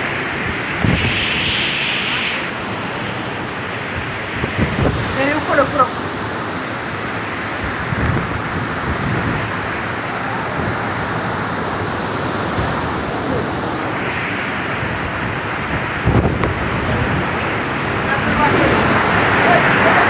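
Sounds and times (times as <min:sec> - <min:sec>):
strong wind rushing: 0:00.0 - 0:20.0
wind gusts buffeting microphone: 0:00.0 - 0:20.0.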